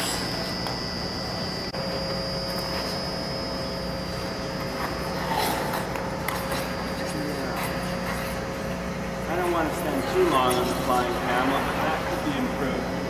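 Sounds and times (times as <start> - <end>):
steady hum and hiss: 0.0 - 13.0.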